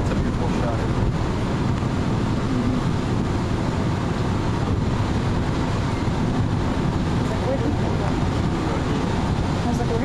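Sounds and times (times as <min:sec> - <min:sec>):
vehicle road and wind noise: 0:00.0 - 0:10.0.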